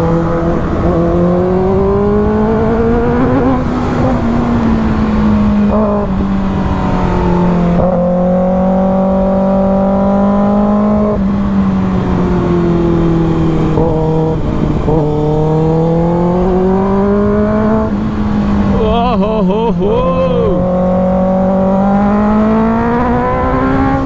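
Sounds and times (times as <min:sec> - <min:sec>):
motorcycle engine revving high: 0:00.0 - 0:24.0.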